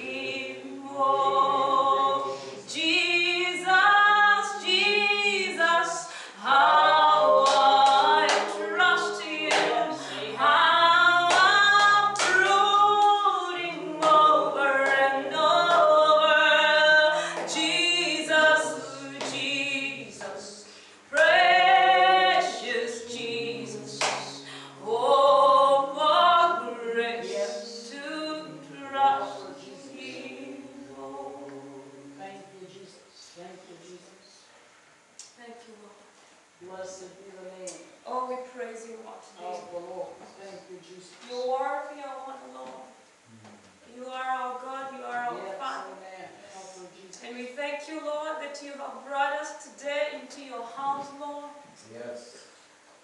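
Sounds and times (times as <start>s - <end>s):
woman singing worship song: 0.0s - 34.6s, 36.6s - 43.2s, 43.8s - 53.0s.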